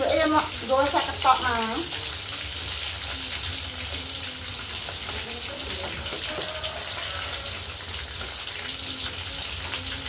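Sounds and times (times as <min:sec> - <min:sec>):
fritters frying in hot oil: 0:00.0 - 0:10.0.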